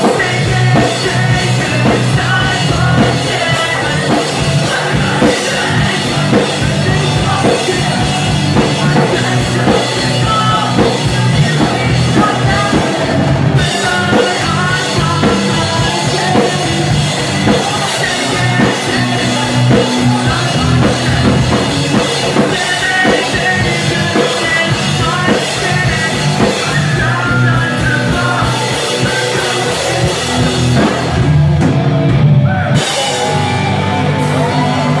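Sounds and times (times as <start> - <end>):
person singing: 0.0 - 31.3, 32.3 - 35.0
drum kit: 0.0 - 35.0
electric guitars: 0.0 - 35.0.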